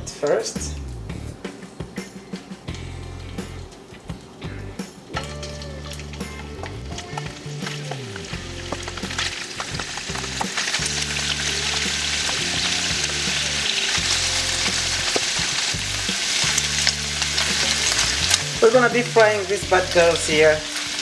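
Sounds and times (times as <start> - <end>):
meat sizzling in a pan: 2.7 - 21.0.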